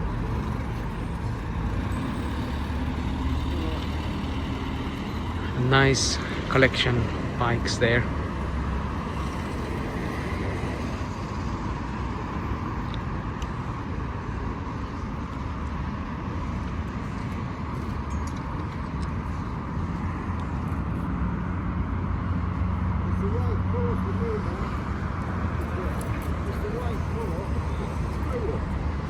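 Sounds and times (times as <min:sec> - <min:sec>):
low engine hum: 0:00.0 - 0:29.0
road traffic noise: 0:00.0 - 0:29.0.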